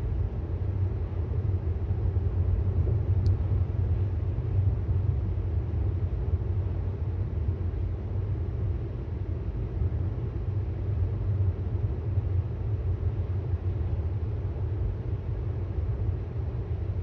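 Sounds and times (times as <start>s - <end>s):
road and tyre noise inside car: 0.0s - 17.0s.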